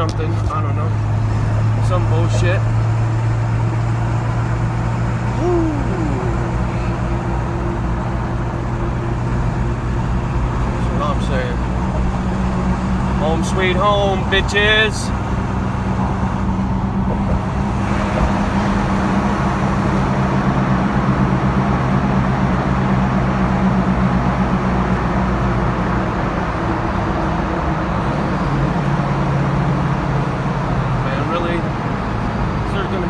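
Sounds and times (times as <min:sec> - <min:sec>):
car engine hum: 0:00.0 - 0:33.0
tyre and road noise: 0:00.0 - 0:33.0.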